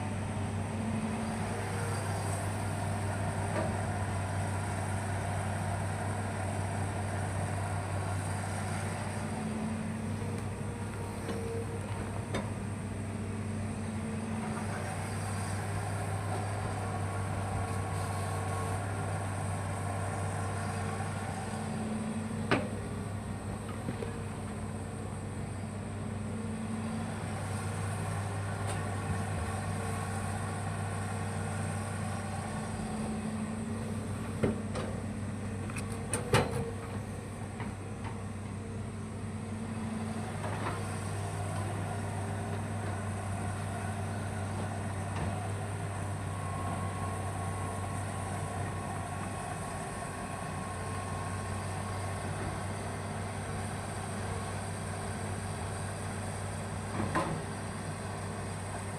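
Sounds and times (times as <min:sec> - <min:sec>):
excavator diesel engine running: 0:00.0 - 0:58.9.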